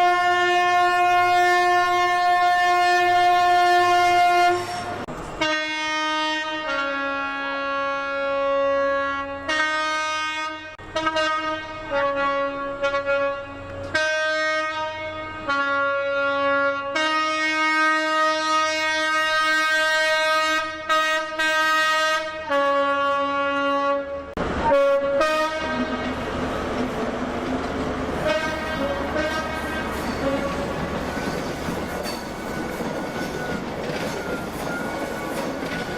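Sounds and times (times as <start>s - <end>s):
train air horn: 0.0s - 26.3s, 28.2s - 31.6s.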